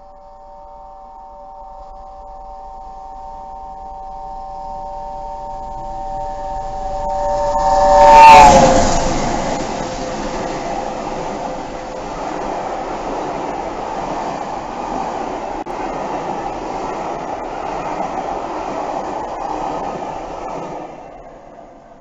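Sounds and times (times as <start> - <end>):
train rolling past: 2.8 - 22.0.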